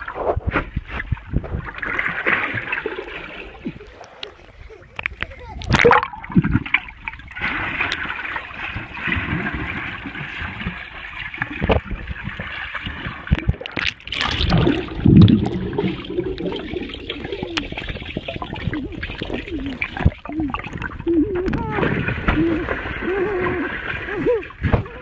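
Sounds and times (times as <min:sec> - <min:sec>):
muffled underwater rushing: 0:00.0 - 0:25.0
splashy bubbling: 0:00.0 - 0:25.0.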